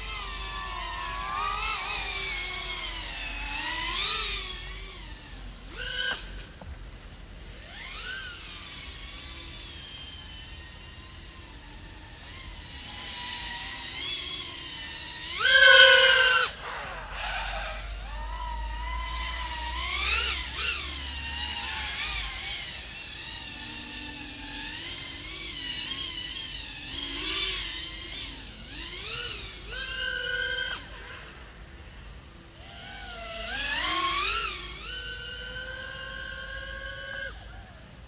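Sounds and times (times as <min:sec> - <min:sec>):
drone motors and propellers whining: 0:00.0 - 0:06.9, 0:07.6 - 0:31.4, 0:32.6 - 0:38.0.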